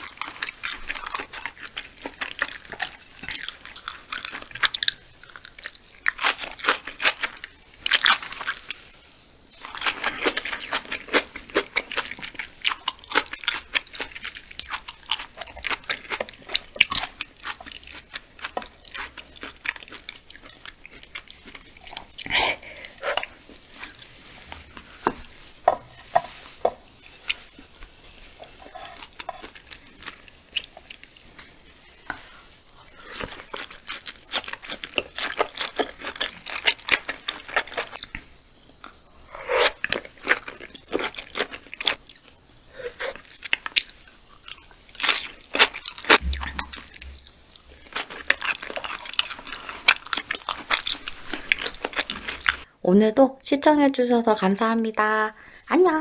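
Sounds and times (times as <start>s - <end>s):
chewing with mouth clicks: 0.0s - 8.8s, 9.6s - 25.3s, 27.0s - 52.7s.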